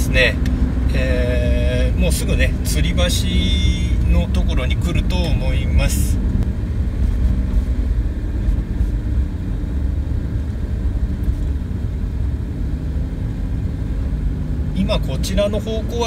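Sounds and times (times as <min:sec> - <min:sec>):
road noise inside moving car: 0:00.0 - 0:16.0.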